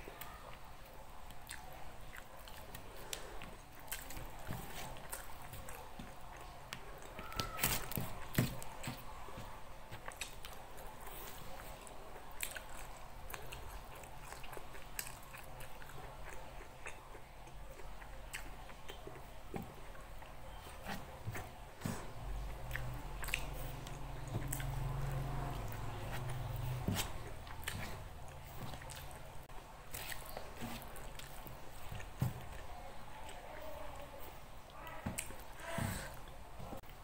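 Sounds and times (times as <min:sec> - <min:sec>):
chewing with wet mouth clicks: 0:01.2 - 0:21.5, 0:22.4 - 0:33.6.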